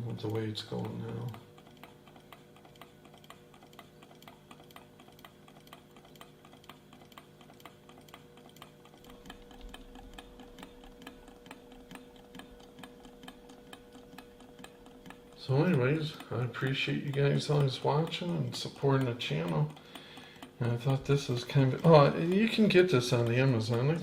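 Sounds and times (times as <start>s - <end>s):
stirling engine ticking: 0.0s - 24.0s.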